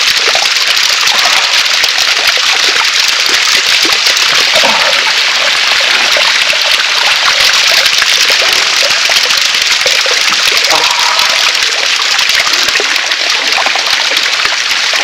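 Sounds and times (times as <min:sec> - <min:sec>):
flowing stream water rushing: 0:00.0 - 0:15.0.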